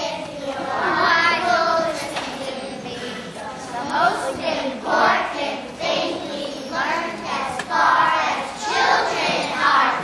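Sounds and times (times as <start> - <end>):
children singing: 0.0 - 10.0
children speaking lines: 0.0 - 10.0.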